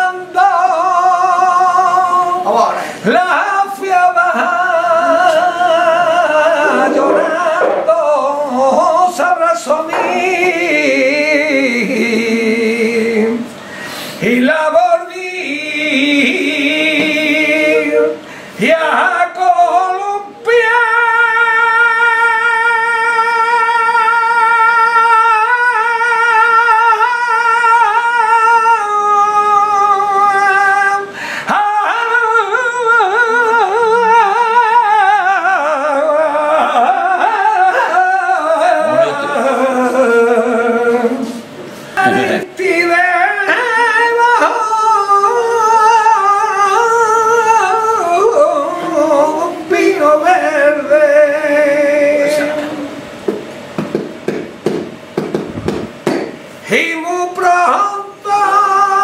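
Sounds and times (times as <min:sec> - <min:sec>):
man singing flamenco: 0:00.0 - 0:13.5, 0:14.2 - 0:52.9, 0:56.6 - 0:59.0.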